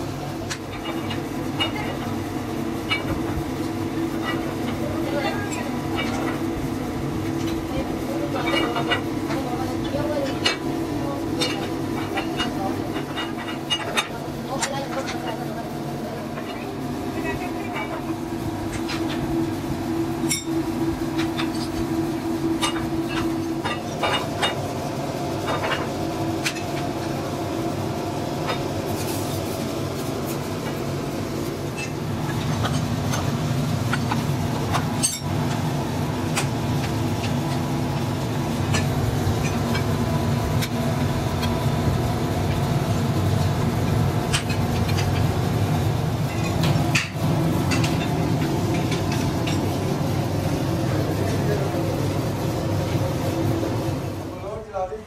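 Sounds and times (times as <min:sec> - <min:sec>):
workshop machinery rumble: 0:00.0 - 0:55.0.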